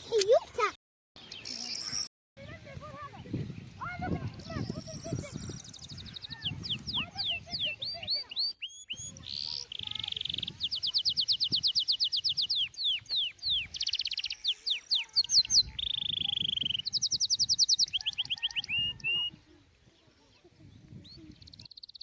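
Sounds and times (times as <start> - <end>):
songbird singing: 1.2 - 22.0.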